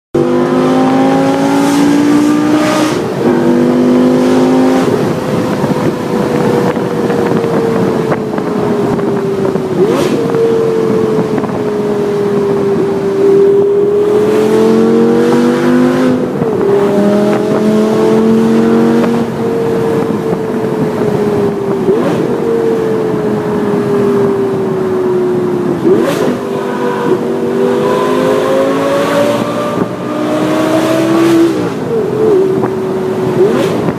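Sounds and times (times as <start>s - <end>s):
sports car engine accelerating: 0.2s - 33.9s.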